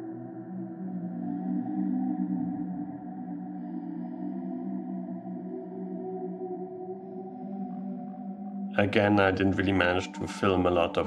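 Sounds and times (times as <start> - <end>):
ambient electronic drone music: 0.0 - 11.0.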